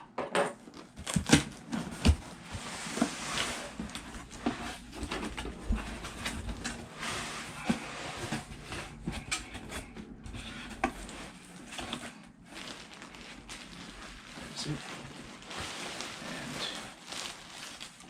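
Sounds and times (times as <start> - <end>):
cardboard box rustling: 0.9 - 18.0.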